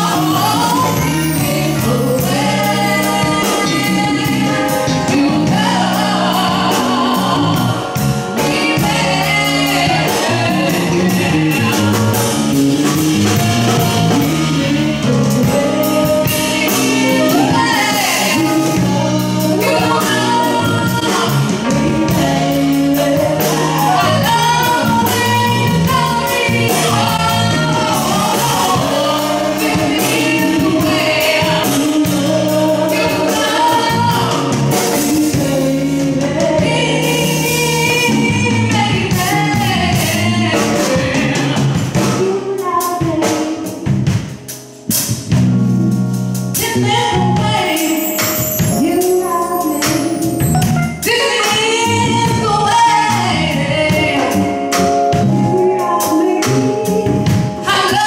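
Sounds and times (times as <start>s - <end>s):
woman singing gospel song: 0.0s - 44.2s, 46.6s - 58.0s
instrumental accompaniment: 0.0s - 58.0s.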